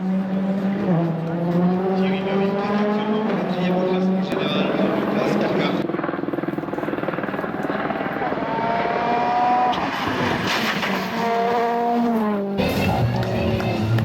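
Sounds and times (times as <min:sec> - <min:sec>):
rally car engine revving: 0:00.0 - 0:05.9, 0:07.6 - 0:14.0.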